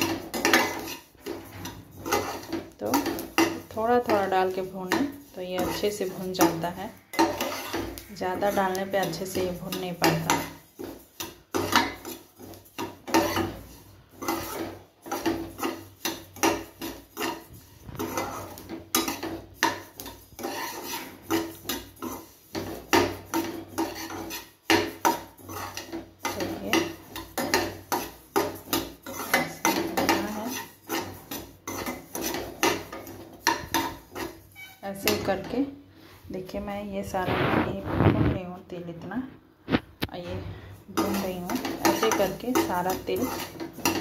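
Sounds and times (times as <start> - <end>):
seeds rasping against metal: 0.0 - 35.5, 40.8 - 44.0
spatula scraping a pan: 0.0 - 36.2, 39.7 - 44.0.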